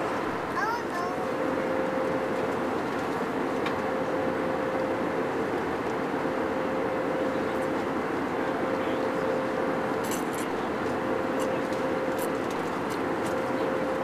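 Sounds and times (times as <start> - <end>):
jet airliner cabin noise: 0.0 - 14.0.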